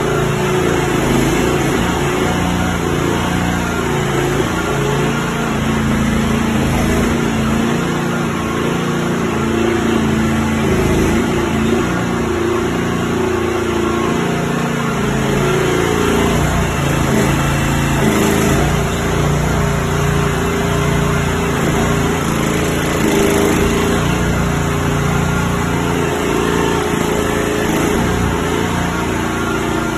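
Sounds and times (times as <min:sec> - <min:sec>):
mini excavator engine running: 0:00.0 - 0:29.9.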